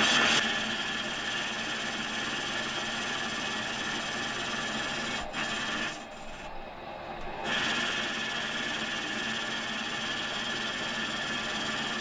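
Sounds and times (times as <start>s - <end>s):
metal lathe machining whine: 0.0s - 12.0s.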